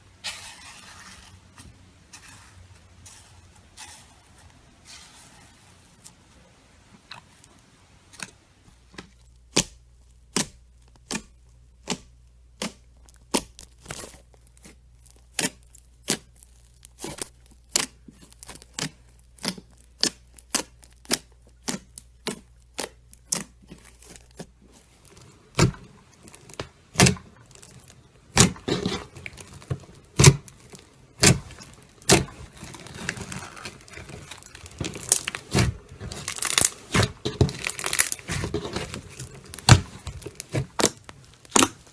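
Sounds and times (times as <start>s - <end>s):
crackly crinkling sound: 0.0s - 41.9s.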